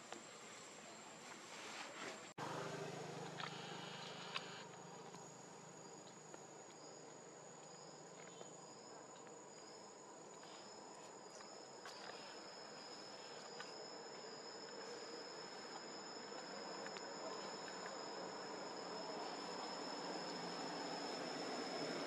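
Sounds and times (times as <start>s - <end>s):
insects chirring: 2.4s - 22.0s.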